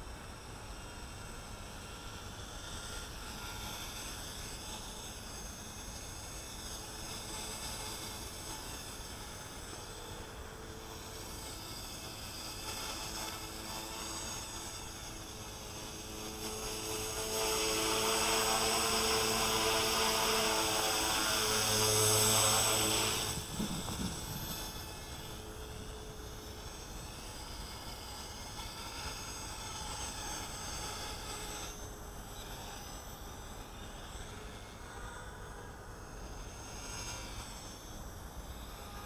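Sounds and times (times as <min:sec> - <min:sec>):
rc helicopter motor whine: 0:00.0 - 0:39.0.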